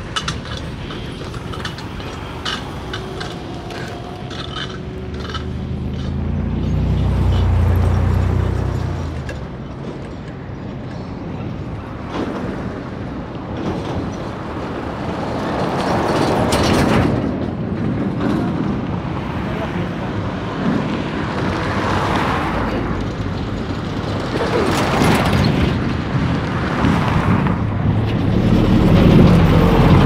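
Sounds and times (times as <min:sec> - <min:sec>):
heavy vehicle engine hum: 0:00.0 - 0:30.0
passing cars tyre noise: 0:00.0 - 0:30.0.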